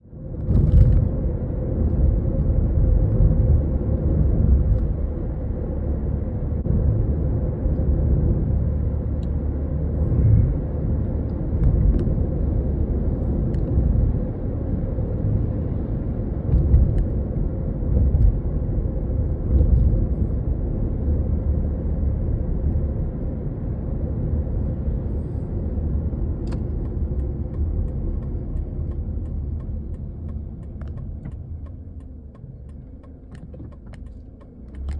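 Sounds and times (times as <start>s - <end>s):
vehicle road rumble: 0.0s - 34.9s.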